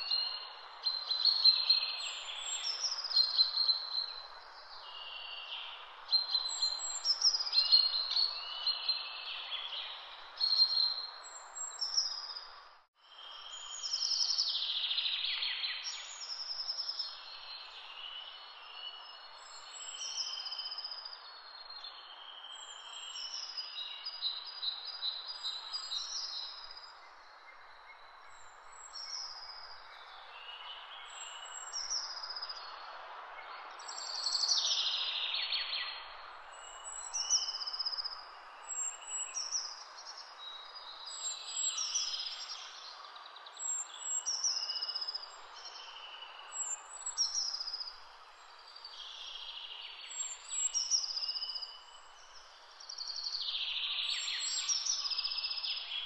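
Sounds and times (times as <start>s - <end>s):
woodland birds singing: 0.0s - 56.0s.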